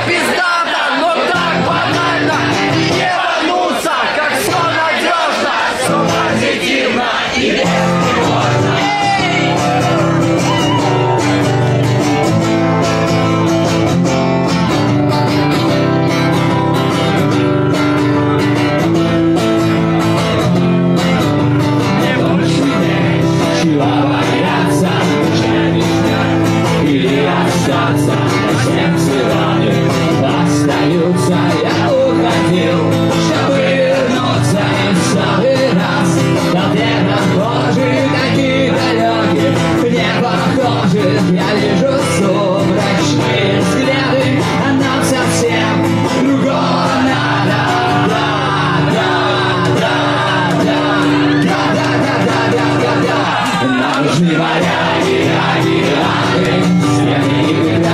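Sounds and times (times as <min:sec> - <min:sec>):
man singing: 0:00.0 - 0:12.4, 0:21.6 - 0:57.9
strummed acoustic guitar: 0:00.0 - 0:57.9.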